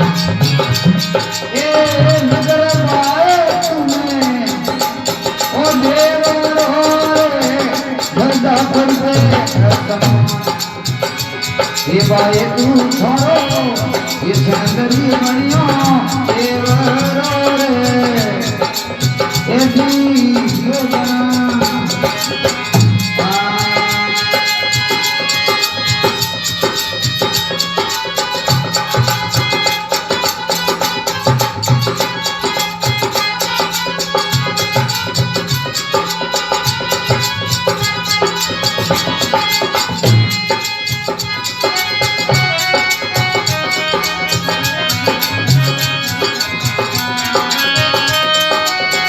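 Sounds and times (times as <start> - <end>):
held melodic tones: 0.0 - 49.0
man singing: 0.0 - 49.0
rattling percussion: 0.0 - 49.0
steady drum beat: 0.0 - 49.0.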